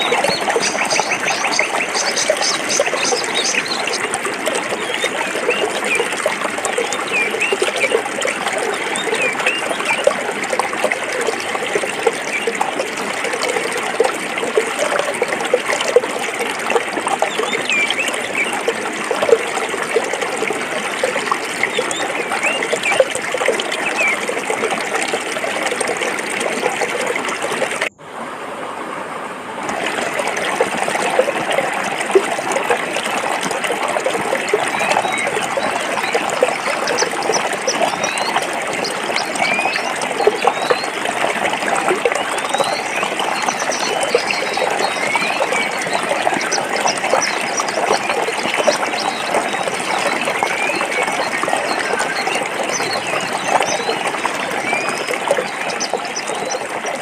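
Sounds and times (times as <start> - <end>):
stream babbling over rocks: 0.0 - 57.0.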